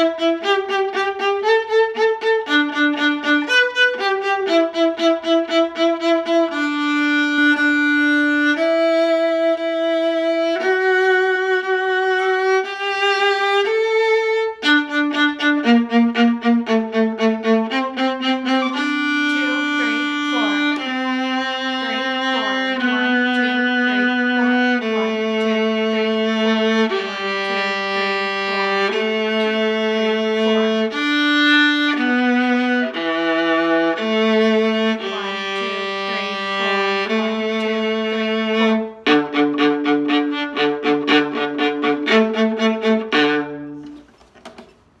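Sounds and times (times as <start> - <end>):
bowed string music: 0.0 - 45.0.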